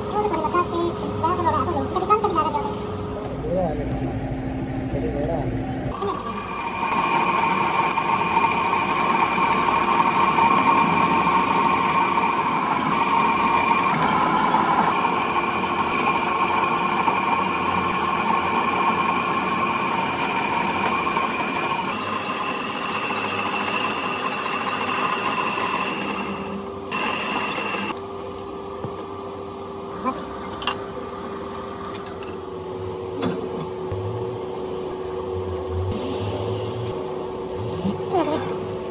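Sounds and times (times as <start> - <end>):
workshop machine whining: 0.0 - 38.9.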